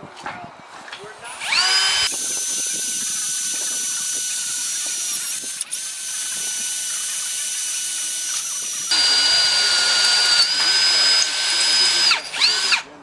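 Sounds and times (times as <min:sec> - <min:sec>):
electric drill whining: 0:01.3 - 0:12.9.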